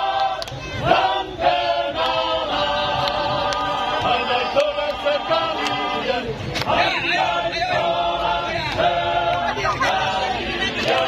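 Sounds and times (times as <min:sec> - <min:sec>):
men singing a cappella: 0:00.8 - 0:11.0.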